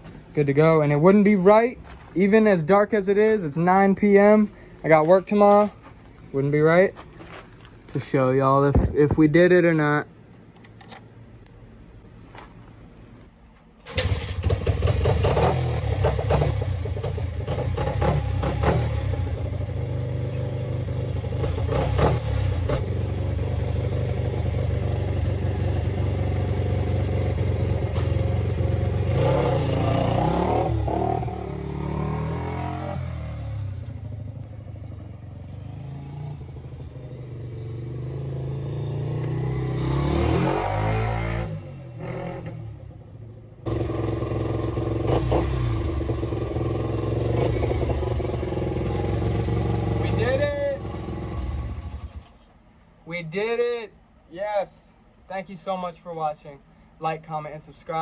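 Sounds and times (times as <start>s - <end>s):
dirt bike engine revving: 0.0s - 10.8s, 13.9s - 52.2s.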